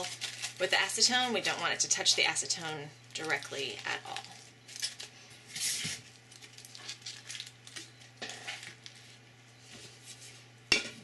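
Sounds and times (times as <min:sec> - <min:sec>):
foil crinkling and rustling: 0:00.0 - 0:09.2.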